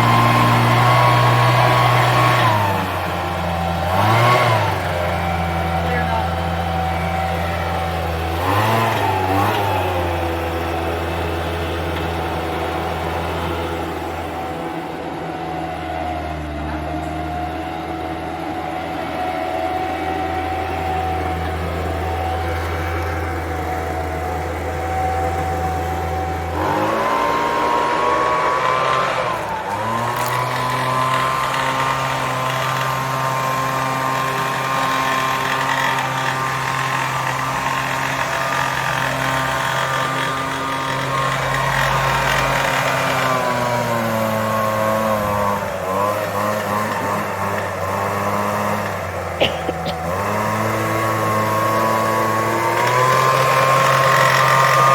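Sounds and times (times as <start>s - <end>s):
leaf blower engine running: 0.0s - 54.9s.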